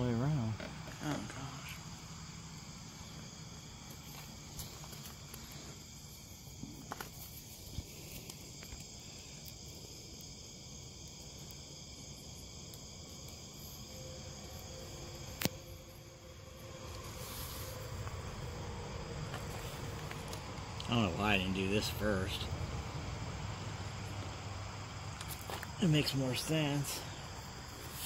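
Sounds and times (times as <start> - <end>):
chorus of night insects: 0.0 - 28.0.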